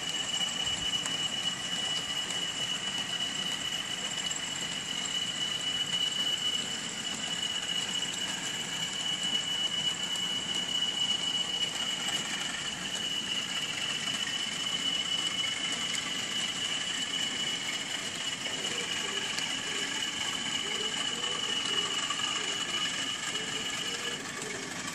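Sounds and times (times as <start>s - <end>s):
high whine: 0.0s - 24.9s
model train rattling on track: 0.0s - 24.9s.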